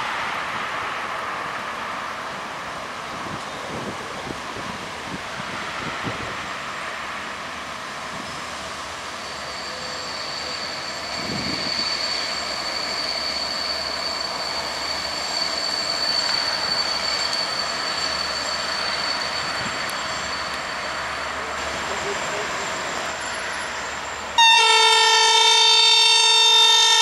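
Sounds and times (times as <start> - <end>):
train rumble: 0.0 - 27.0
train wheels squealing: 3.2 - 27.0.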